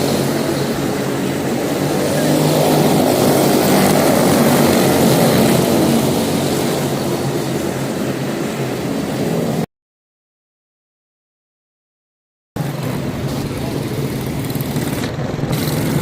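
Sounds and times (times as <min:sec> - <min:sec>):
race car engines droning: 0:00.0 - 0:09.6, 0:12.6 - 0:16.0.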